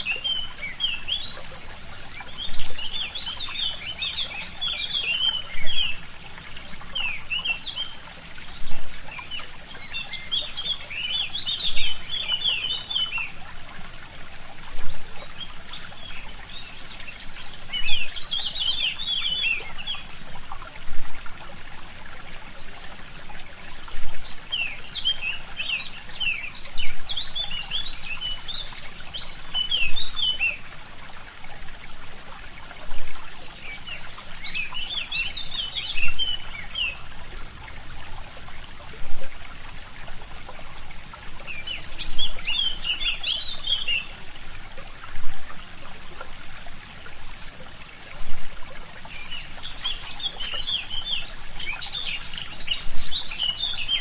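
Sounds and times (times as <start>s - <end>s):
songbirds chirping: 0.0s - 20.8s, 21.7s - 54.0s
small stream trickling: 0.0s - 54.0s.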